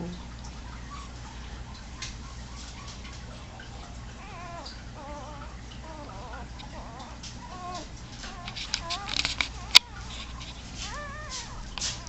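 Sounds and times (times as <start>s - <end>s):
puppies squeaking and whining: 0.6s - 12.0s.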